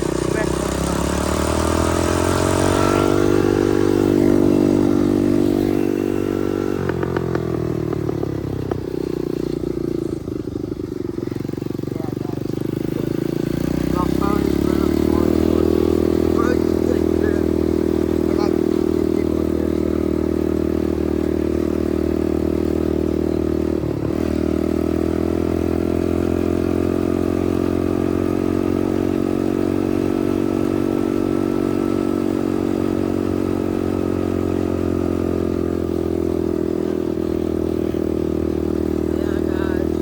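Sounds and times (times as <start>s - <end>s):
dirt bike engine running: 0.0s - 40.0s.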